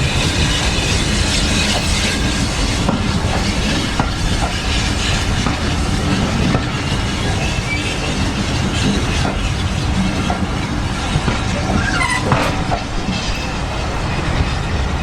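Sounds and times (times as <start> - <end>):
train wheels clacking over rail joints: 0.0 - 15.0.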